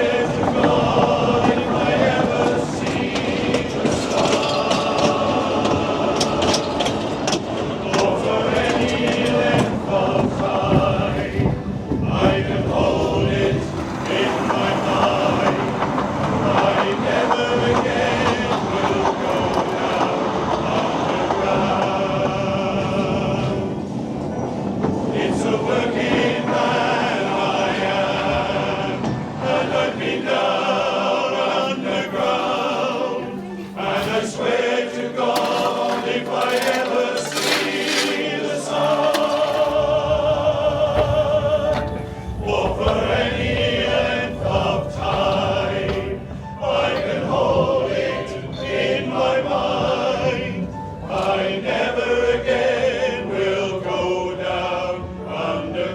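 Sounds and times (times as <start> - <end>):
choir singing with vibrato: 0.0 - 55.9.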